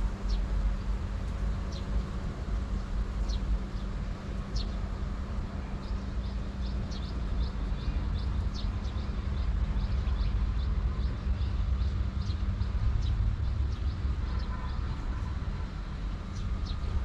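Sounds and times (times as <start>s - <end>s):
low rumble and hum: 0.0s - 17.0s
small birds chirping: 2.7s - 17.0s.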